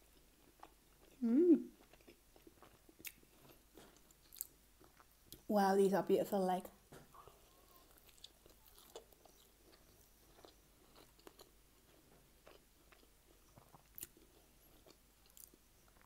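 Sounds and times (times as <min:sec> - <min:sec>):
faint chewing: 0:00.0 - 0:05.5, 0:06.9 - 0:16.0.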